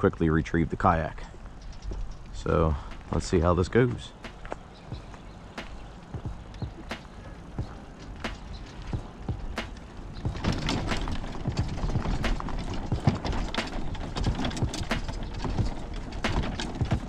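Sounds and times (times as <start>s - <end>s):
dolly wheels rumbling on concrete: 0.0s - 17.0s.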